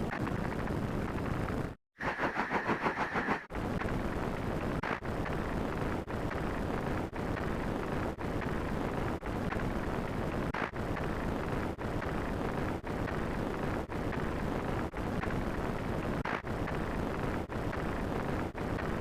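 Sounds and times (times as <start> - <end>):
noisy rumble: 0.0 - 19.0.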